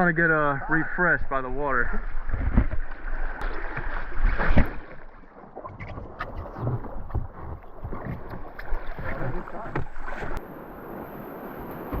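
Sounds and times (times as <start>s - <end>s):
water rushing and splashing: 0.0s - 12.0s.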